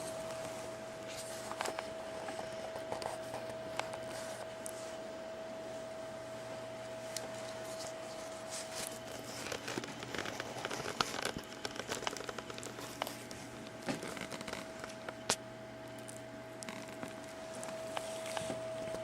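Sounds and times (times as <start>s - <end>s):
crinkling and rustling: 0.0s - 5.0s, 6.9s - 19.0s
faint steady hum: 0.0s - 19.0s.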